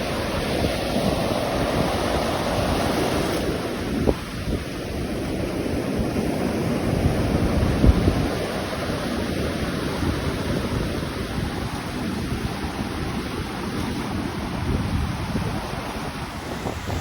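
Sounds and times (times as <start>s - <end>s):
ocean waves breaking: 0.0s - 17.0s
wind buffeting microphone: 0.0s - 17.0s.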